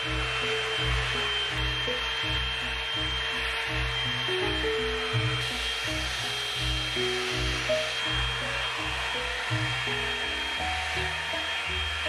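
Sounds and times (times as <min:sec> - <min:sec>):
hot air brush blower whine: 0:00.0 - 0:12.0.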